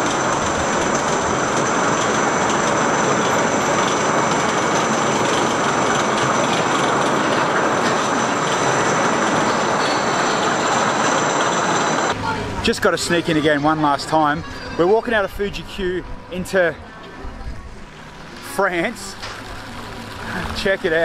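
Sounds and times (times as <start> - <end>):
roller coaster wheels rumbling: 0.0 - 21.0.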